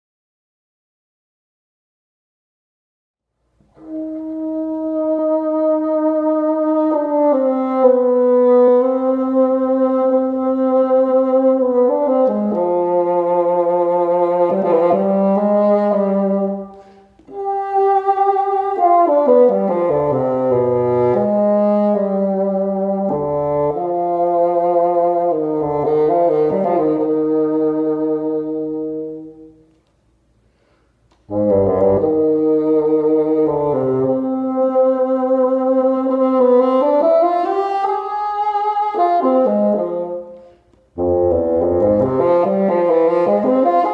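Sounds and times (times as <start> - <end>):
solo bassoon melody: 3.6 - 29.9, 30.6 - 43.9.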